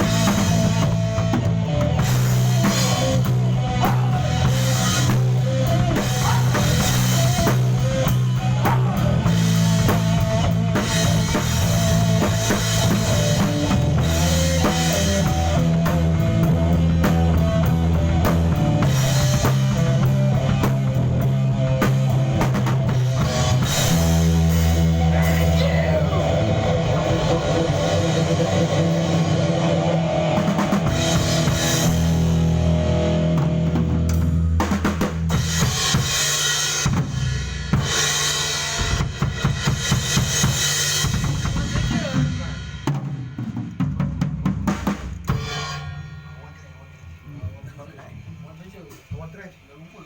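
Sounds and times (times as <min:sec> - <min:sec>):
low bass notes: 0:00.0 - 0:49.2
drum kit playing: 0:00.0 - 0:50.0.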